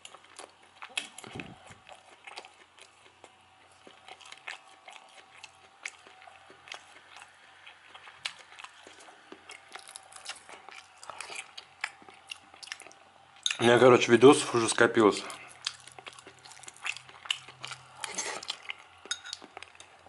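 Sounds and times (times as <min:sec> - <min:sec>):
person chewing food: 0:00.0 - 0:13.6, 0:14.5 - 0:20.0.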